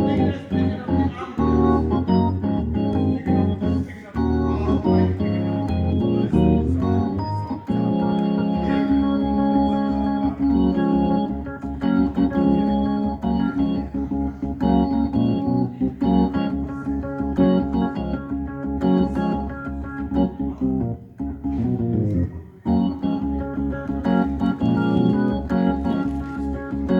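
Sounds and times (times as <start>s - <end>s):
organ playing full chords: 0.0s - 26.9s.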